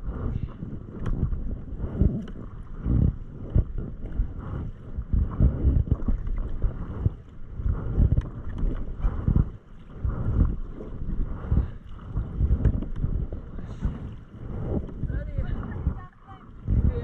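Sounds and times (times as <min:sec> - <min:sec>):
kayak paddle splashing: 0:00.0 - 0:17.0
wind rumble on microphone: 0:00.0 - 0:17.0.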